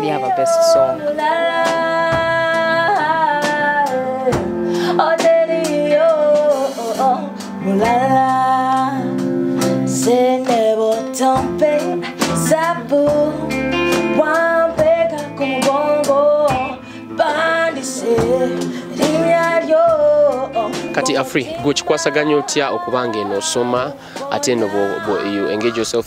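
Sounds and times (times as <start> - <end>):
instrumental accompaniment: 0.0 - 26.0
woman singing: 0.0 - 26.0.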